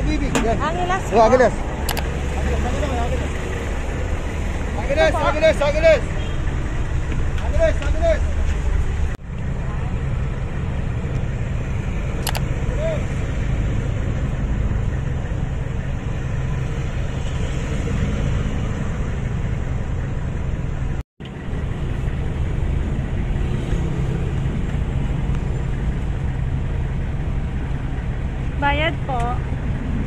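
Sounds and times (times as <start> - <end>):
engine droning: 0.0 - 30.0
road noise: 0.0 - 30.0.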